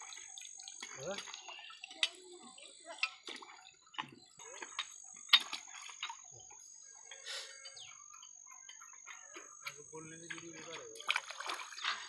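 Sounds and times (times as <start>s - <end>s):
water splashing and dripping: 0.0s - 6.7s, 8.1s - 12.0s.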